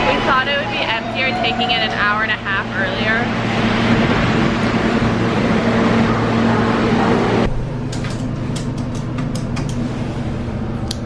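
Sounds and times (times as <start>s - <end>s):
transit vehicle rumble: 0.0s - 11.0s.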